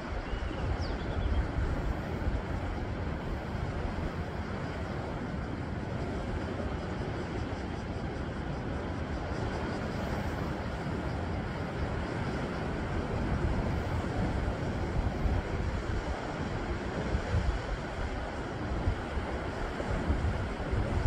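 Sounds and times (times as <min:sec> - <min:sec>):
low wind rumble: 0:00.0 - 0:21.0.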